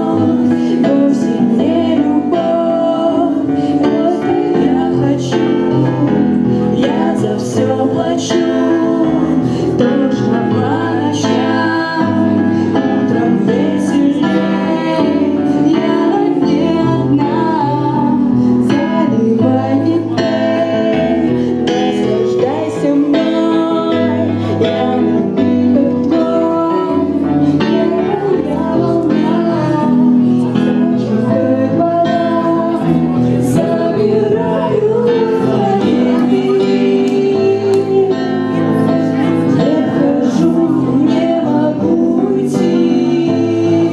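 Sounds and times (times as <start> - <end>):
person singing: 0.0 - 43.9.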